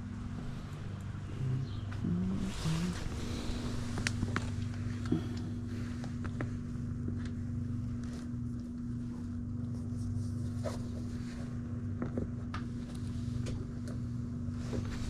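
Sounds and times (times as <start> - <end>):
pulsing rumble: 0.0 - 15.0
steady low hum: 0.0 - 15.0.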